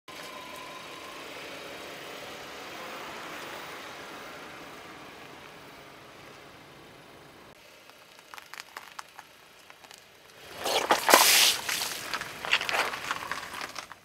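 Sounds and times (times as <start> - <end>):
car engine running at low speed: 0.1 - 14.0.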